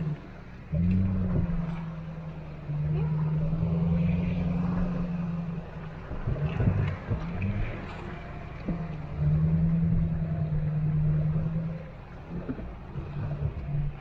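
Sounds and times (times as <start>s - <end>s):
car engine pulling under load: 0.0s - 14.0s.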